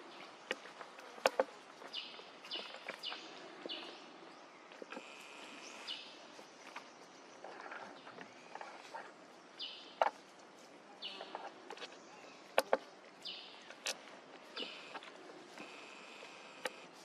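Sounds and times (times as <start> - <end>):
outdoor ambience: 0.0 - 17.0.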